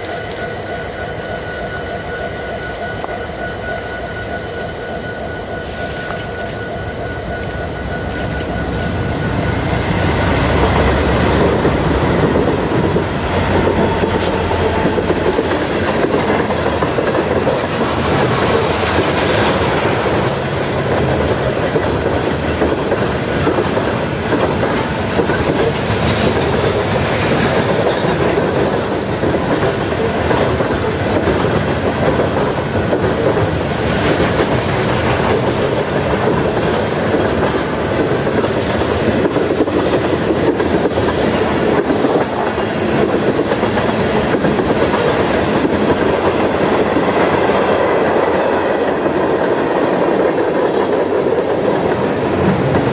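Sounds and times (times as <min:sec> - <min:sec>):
freight train rumbling past: 0:00.0 - 0:52.9
train cars clattering over rails: 0:03.0 - 0:52.9.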